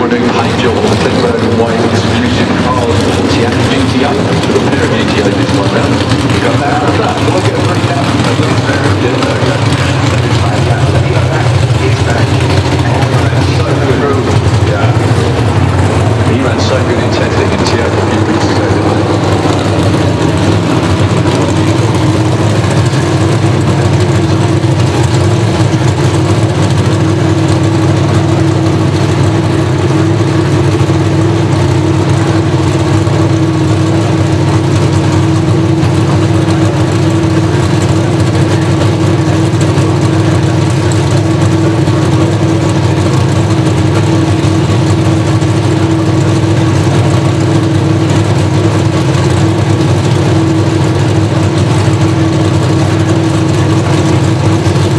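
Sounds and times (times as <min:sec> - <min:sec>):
race car engines idling: 0:00.0 - 0:54.9.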